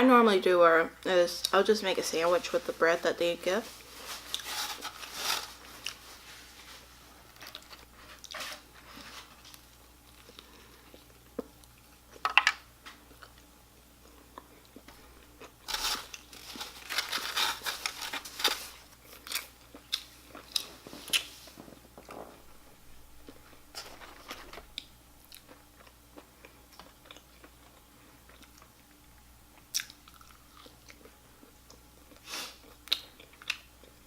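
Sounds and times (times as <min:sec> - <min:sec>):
person chewing crunchy food: 0:03.8 - 0:12.2, 0:13.0 - 0:22.4, 0:23.2 - 0:34.0.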